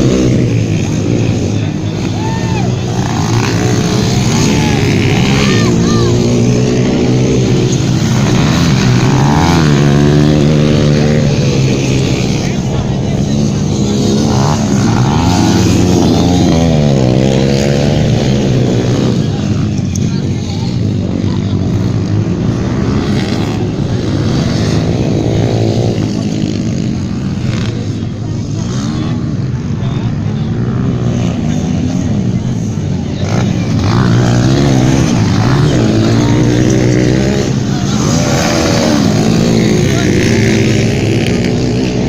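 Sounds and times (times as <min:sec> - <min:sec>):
motocross bike engines revving: 0:00.0 - 0:42.0.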